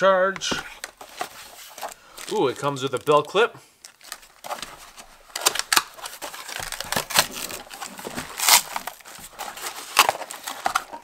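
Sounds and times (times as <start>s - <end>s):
plastic crinkling: 0.7s - 11.0s.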